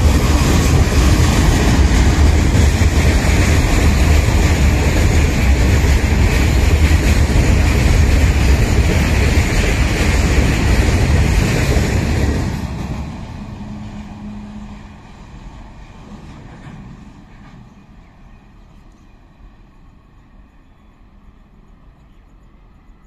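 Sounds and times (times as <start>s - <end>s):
freight train wheels rattling: 0.0s - 18.8s.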